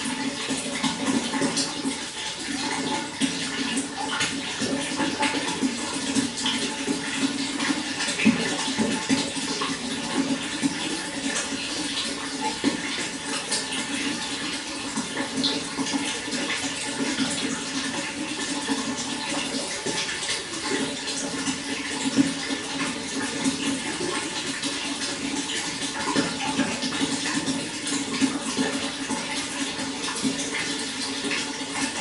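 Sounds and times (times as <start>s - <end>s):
running water splashing: 0.0s - 32.0s.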